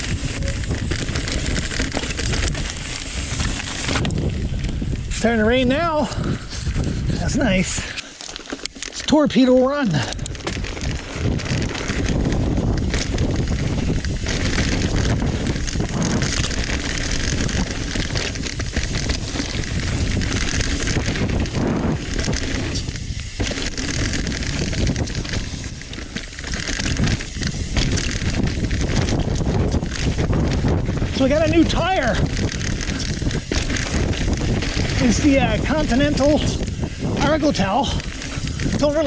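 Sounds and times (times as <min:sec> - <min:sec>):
bike rattling and knocking: 0:00.0 - 0:05.2, 0:05.8 - 0:39.0
bike tyres rolling over dirt: 0:00.0 - 0:39.0.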